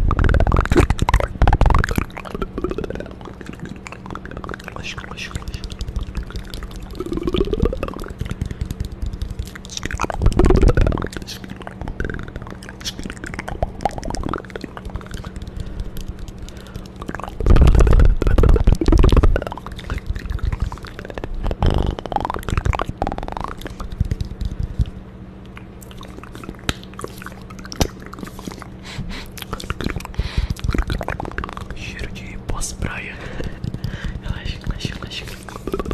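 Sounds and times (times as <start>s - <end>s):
wet mouth clicks and smacks: 0.0s - 35.9s.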